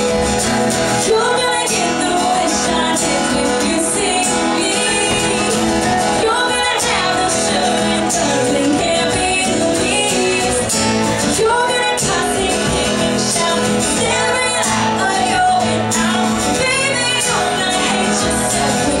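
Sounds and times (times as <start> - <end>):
live band playing: 0.0 - 19.0
strummed acoustic guitar: 0.0 - 19.0
woman singing: 0.0 - 19.0.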